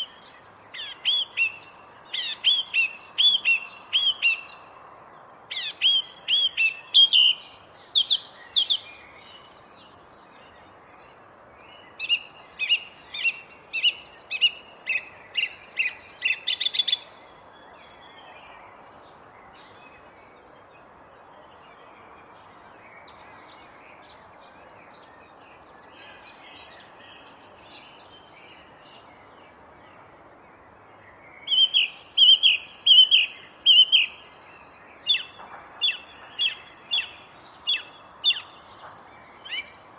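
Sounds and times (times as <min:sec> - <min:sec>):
faint outdoor hiss: 0:00.0 - 0:39.9
songbird chirping: 0:00.0 - 0:39.9.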